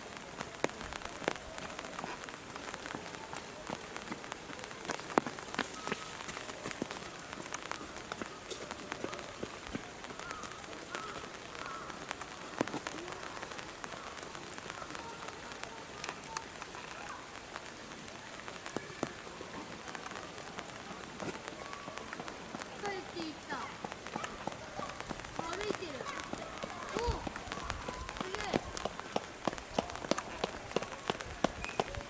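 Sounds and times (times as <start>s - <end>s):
rain falling on leaves: 0.0s - 32.0s.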